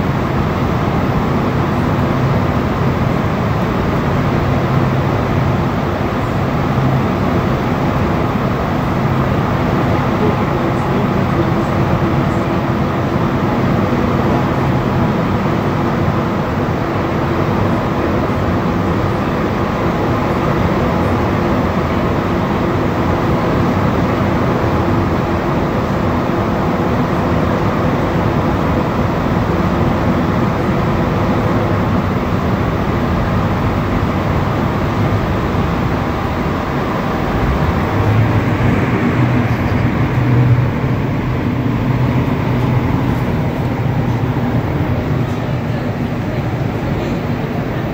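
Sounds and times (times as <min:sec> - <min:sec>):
train rumbling through tunnel: 0:00.0 - 0:47.9.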